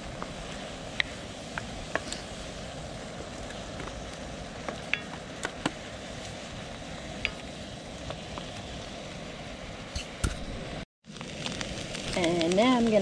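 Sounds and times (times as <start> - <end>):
meat sizzling in a skillet: 0.0 - 10.2, 11.0 - 13.0.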